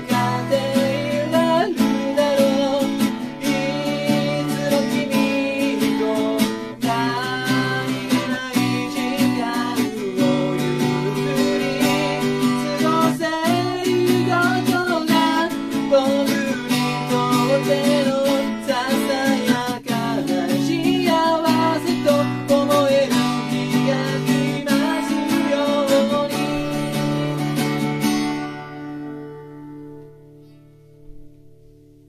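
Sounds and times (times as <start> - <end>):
man singing slow song: 0.0 - 28.0
acoustic guitar strumming: 0.0 - 32.0.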